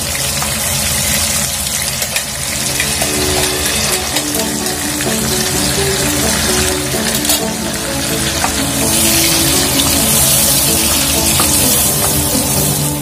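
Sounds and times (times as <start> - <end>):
chili paste sizzling in hot oil: 0.0 - 13.0
background music: 2.6 - 13.0.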